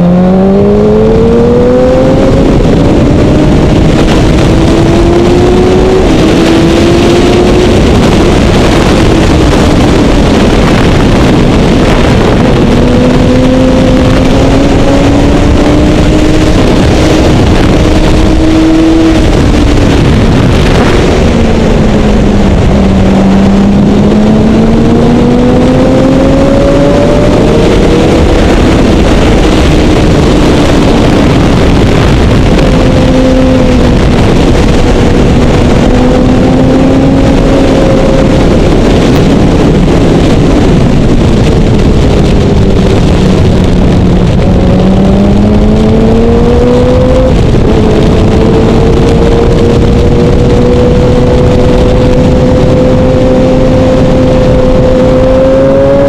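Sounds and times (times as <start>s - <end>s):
heavy wind rush: 0.0s - 56.0s
motorcycle engine accelerating: 0.0s - 56.0s.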